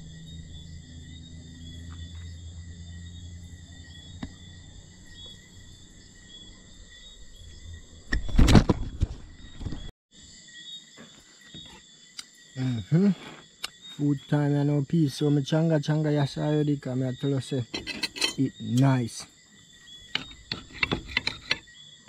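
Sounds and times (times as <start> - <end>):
crickets and insects chirping: 0.0 - 22.0.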